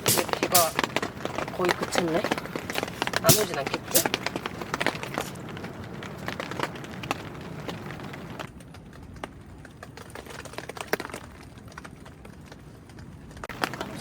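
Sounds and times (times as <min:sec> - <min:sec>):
rain dripping on a tent: 0:00.0 - 0:14.0.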